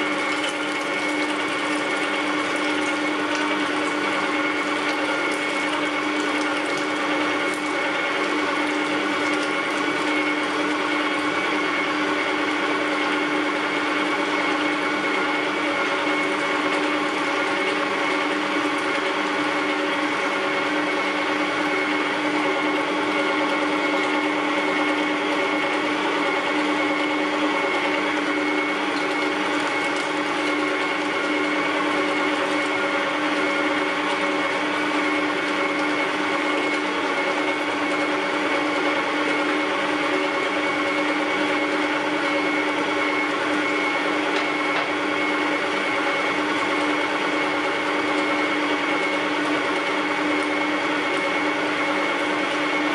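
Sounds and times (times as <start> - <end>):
electric meat grinder running: 0.0 - 52.9.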